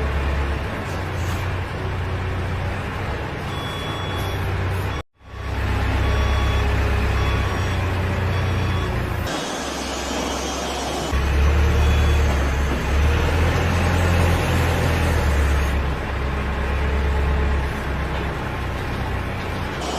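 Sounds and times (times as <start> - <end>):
heavy engine humming: 0.0 - 19.9.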